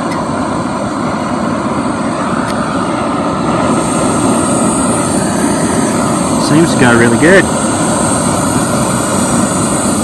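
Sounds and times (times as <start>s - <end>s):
gas stove flame hissing: 0.0s - 10.0s.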